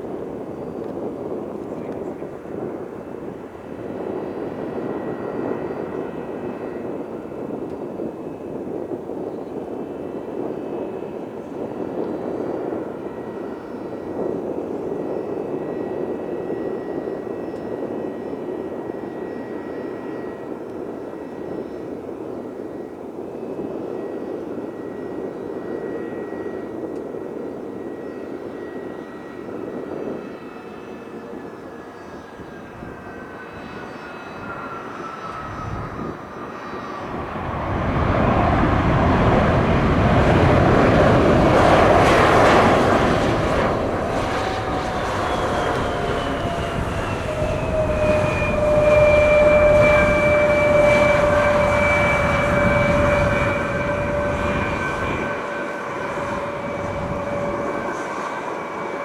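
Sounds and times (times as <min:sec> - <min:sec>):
jet engine noise with whine: 0:00.0 - 0:59.0.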